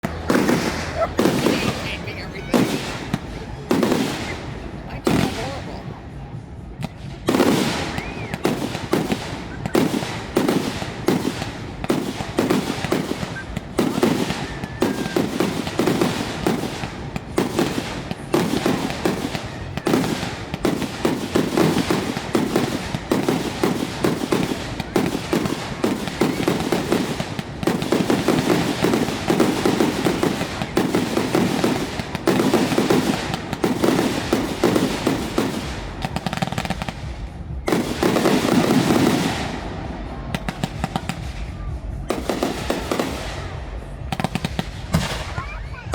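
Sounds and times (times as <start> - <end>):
fireworks bursting: 0.0 - 45.9.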